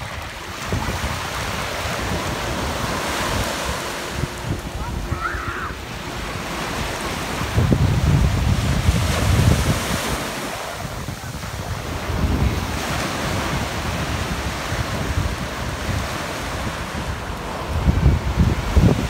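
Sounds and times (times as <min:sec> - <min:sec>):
small waves breaking on beach: 0:00.0 - 0:19.0
wind buffeting microphone: 0:00.0 - 0:19.0.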